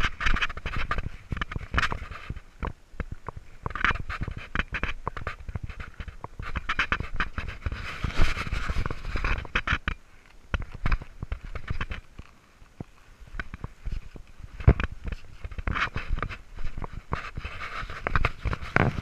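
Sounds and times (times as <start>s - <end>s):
camera handling noise on rock: 0.0s - 19.0s.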